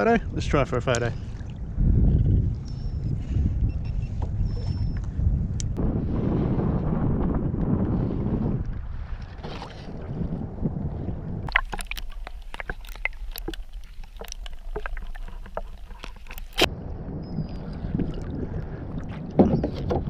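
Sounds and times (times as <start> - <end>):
water splashing and sloshing: 0.0 - 5.2, 6.0 - 20.0
wind on microphone: 0.0 - 20.0.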